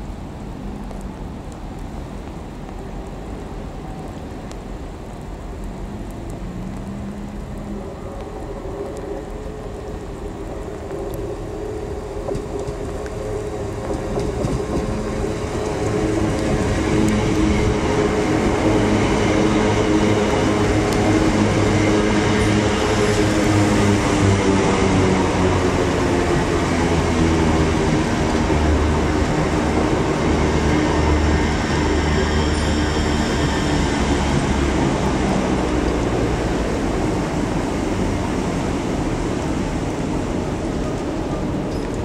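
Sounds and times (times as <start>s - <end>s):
wheel-on-rail rumble: 0.0s - 42.0s.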